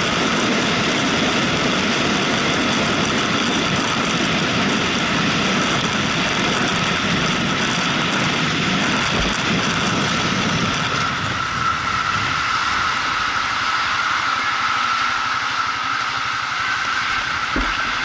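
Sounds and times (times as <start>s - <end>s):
motorcycle engine: 0.0s - 18.0s
steady whine: 0.0s - 18.0s
wind and road rush: 0.0s - 18.0s.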